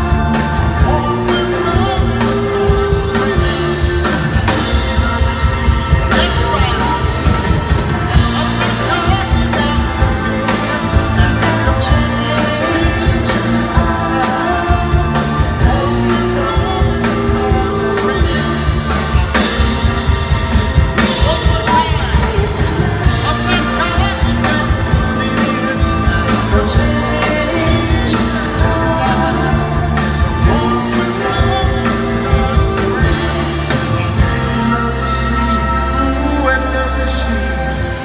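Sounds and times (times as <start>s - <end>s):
live band playing: 0.0s - 38.0s
man singing lead: 0.0s - 38.0s.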